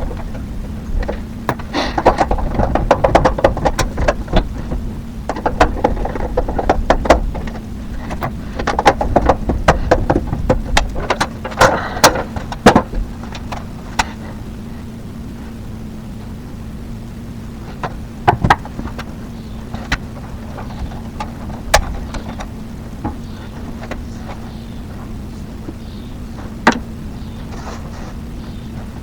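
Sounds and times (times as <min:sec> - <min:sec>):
rapid irregular clicks and knocks: 0:00.0 - 0:14.6, 0:17.5 - 0:29.0
steady low hum: 0:00.0 - 0:29.0.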